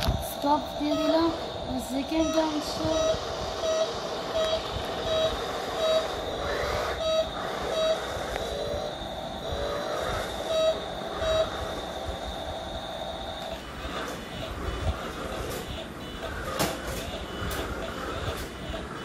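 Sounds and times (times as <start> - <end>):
high-pitched whine: 0.0 - 19.0
warbling electronic tones: 0.0 - 19.0
short electronic beeps: 0.5 - 8.2, 9.5 - 11.7, 13.2 - 19.0.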